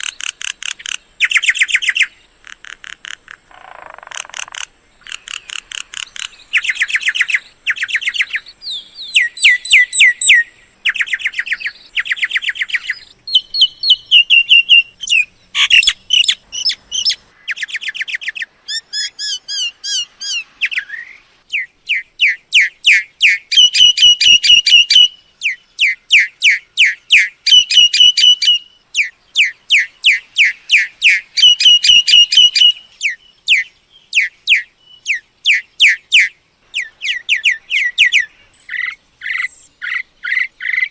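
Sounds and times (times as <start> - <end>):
myna calling with chattering whistles: 3.2 - 40.9.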